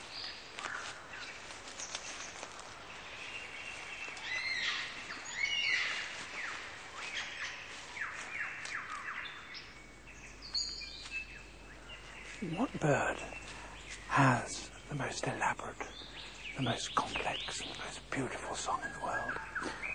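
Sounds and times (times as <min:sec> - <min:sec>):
forest birds singing: 0:00.0 - 0:19.9
steady background hiss: 0:00.0 - 0:19.9.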